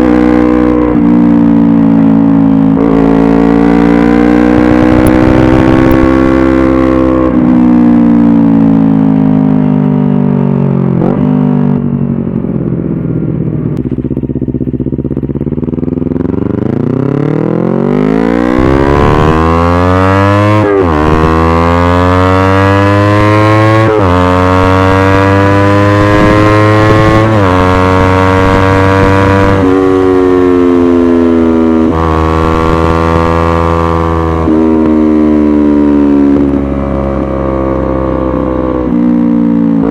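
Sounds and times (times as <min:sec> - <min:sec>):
motorcycle accelerating through gears: 0:00.0 - 0:39.9.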